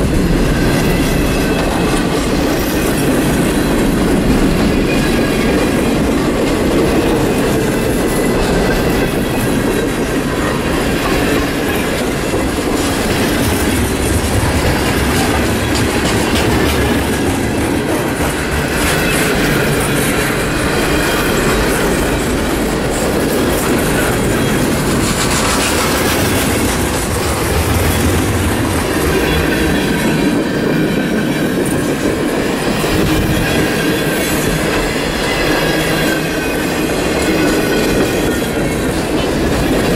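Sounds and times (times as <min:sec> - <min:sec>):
train wheel squeal: 0:00.0 - 0:39.9
wheels clacking over rail joints: 0:00.0 - 0:39.9.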